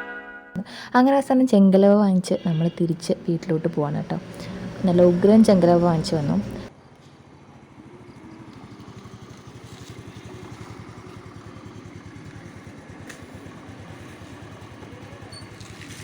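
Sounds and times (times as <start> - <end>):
vehicle engine running: 0.7 - 16.0.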